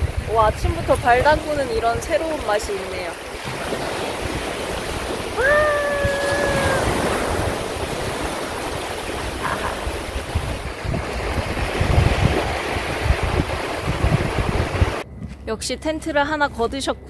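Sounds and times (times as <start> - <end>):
small waves breaking on beach: 0.0 - 15.0
wind buffeting microphone: 0.0 - 17.0.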